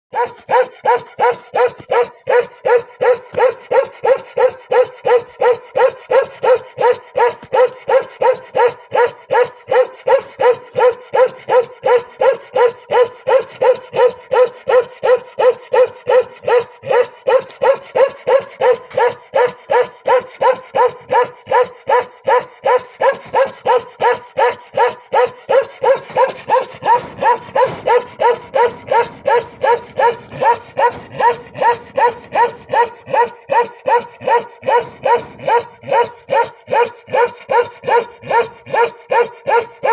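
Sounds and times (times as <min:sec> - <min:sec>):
dog barking rhythmically: 0:00.1 - 0:39.9.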